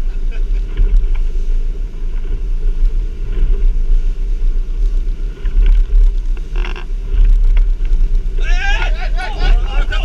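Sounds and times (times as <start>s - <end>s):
motorboat engine rumble: 0.0s - 10.0s
wind noise: 0.0s - 10.0s.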